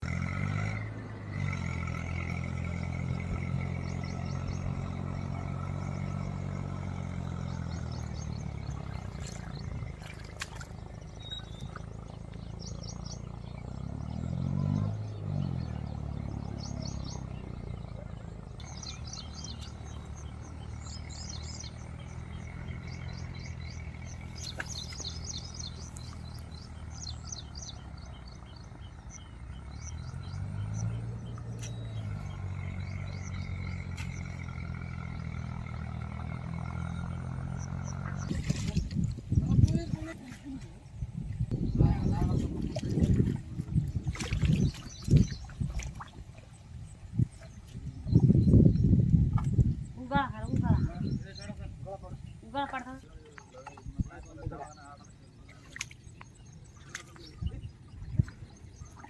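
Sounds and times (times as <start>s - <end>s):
tractor engine straining: 0.0s - 52.8s
birds chirping: 0.0s - 59.0s.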